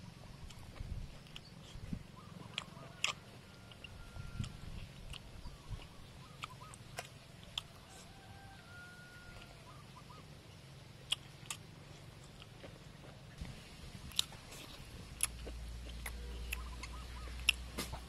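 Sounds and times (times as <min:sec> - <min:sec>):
chewing: 0:00.4 - 0:08.4, 0:11.0 - 0:18.0.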